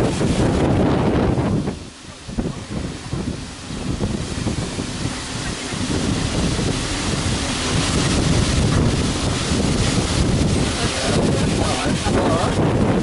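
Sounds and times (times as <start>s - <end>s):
waterfall roaring: 0.0s - 13.0s
wind buffeting microphone: 0.0s - 13.0s.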